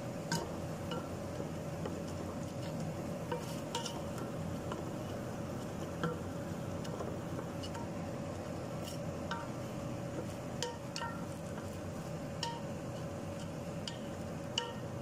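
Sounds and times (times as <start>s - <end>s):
steady low hum: 0.0s - 15.0s
utensil scraping cooking pan: 0.2s - 15.0s.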